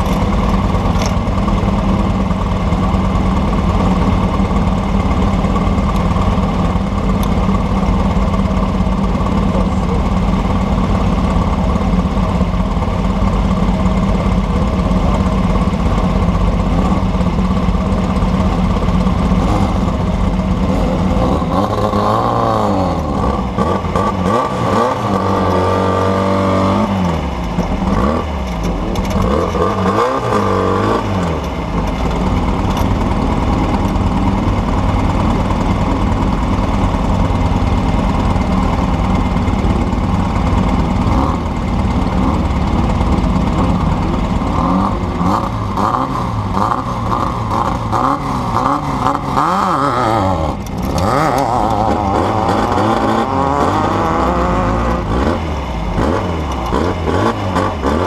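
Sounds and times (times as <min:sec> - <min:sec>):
race vehicle engine revving: 0:00.0 - 0:58.0.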